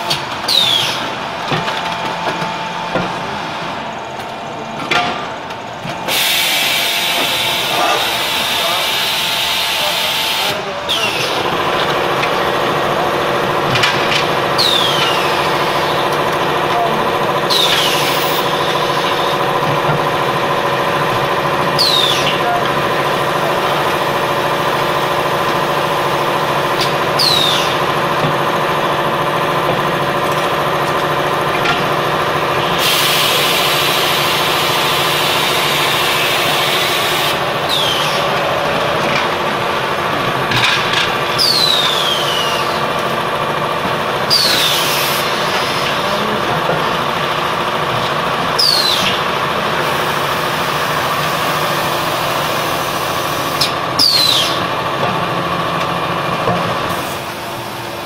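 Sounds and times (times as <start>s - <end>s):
machine motors humming: 0.0s - 58.0s.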